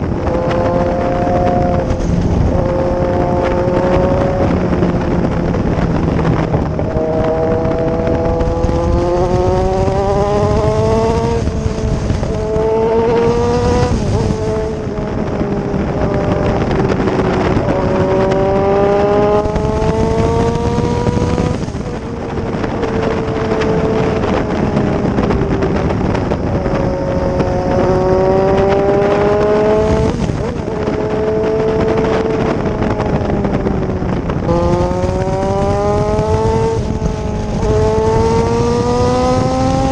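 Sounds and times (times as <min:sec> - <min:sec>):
motorcycle engine accelerating: 0:00.0 - 0:39.9
rush of noise: 0:00.0 - 0:39.9.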